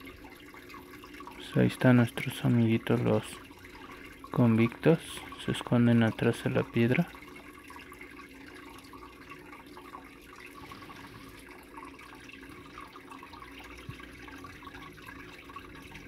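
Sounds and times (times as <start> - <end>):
aquarium filter water splashing: 0.0 - 16.0
low steady hum: 0.0 - 16.0.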